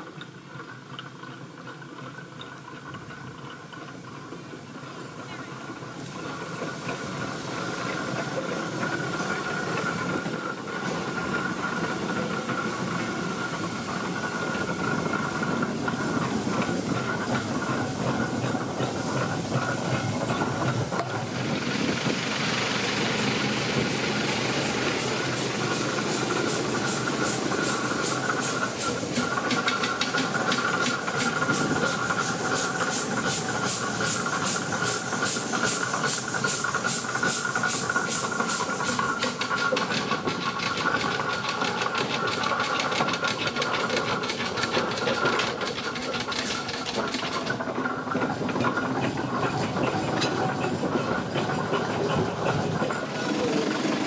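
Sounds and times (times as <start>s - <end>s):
steam hissing: 4.8s - 54.0s
steam engine exhaust beat: 5.8s - 54.0s.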